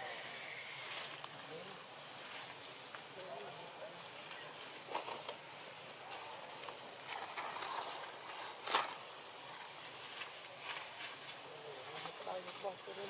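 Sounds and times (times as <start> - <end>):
dry leaves rustling and crackling: 0.0 - 13.0
faint outdoor hiss: 0.0 - 13.0.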